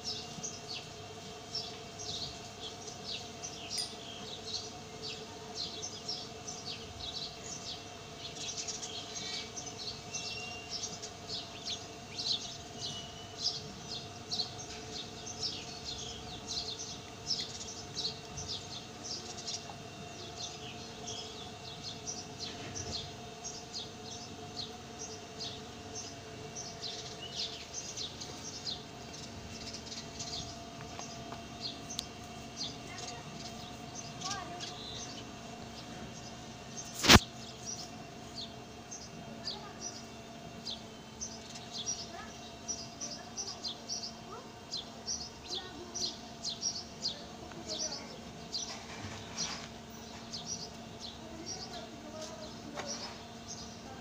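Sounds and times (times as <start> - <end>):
faint steady hum: 0.0 - 54.0
small birds chirping: 0.0 - 54.0.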